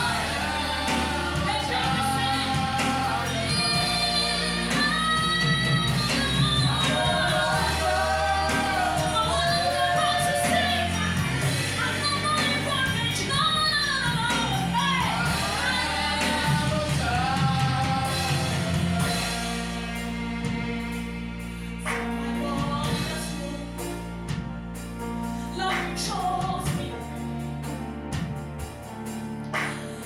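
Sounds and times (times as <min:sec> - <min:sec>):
worship band music: 0:00.0 - 0:30.0.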